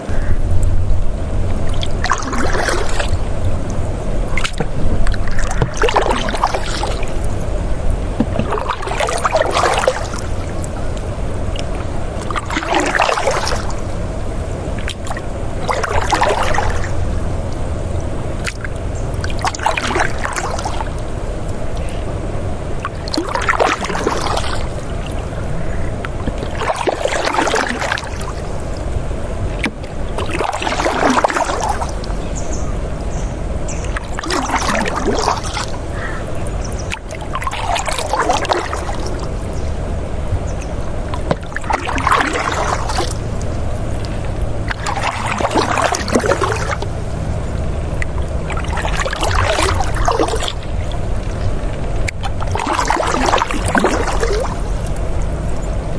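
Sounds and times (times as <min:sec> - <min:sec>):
low rumble: 0:00.0 - 0:55.9
river water flowing: 0:00.0 - 0:55.9
water surging: 0:00.0 - 0:55.9.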